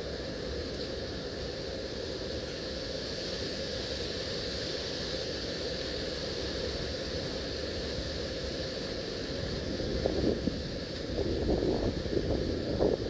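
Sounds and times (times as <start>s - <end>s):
even hiss: 0.0s - 13.0s.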